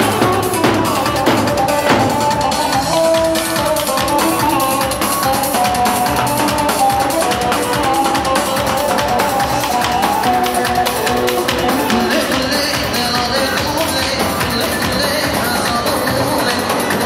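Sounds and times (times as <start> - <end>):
amplified dance music: 0.0 - 17.0.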